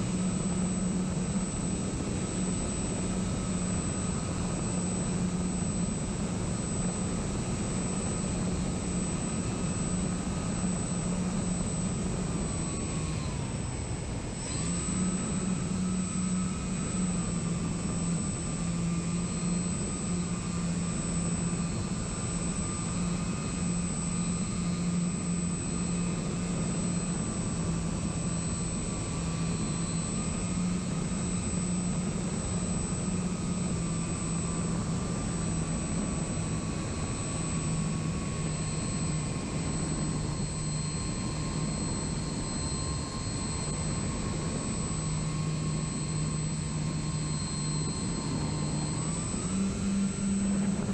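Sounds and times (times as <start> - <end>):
high whine: 0.0 - 50.9
model plane motors droning: 0.0 - 50.9.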